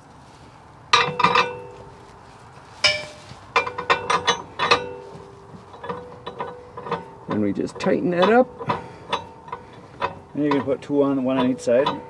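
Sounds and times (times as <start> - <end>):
metal shackle clinking on steel: 0.9 - 12.0.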